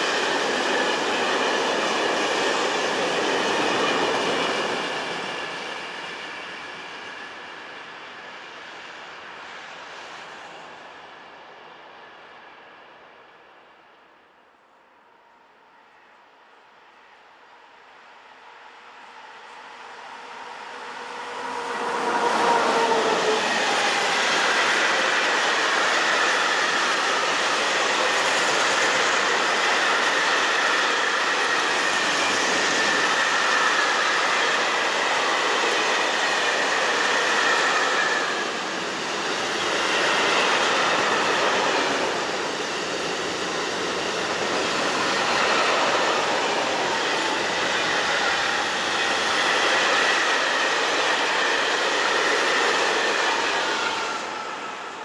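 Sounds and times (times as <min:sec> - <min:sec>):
electric locomotive whine: 0:00.0 - 0:55.0.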